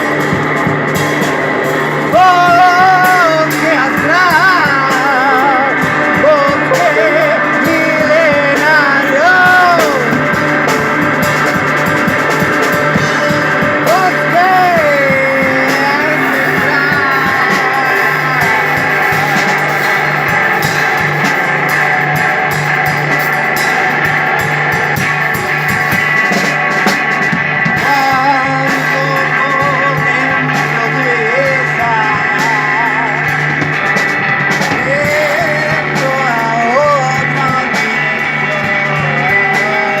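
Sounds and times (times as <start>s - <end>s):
drum kit: 0.0s - 40.0s
electric guitar: 0.0s - 40.0s.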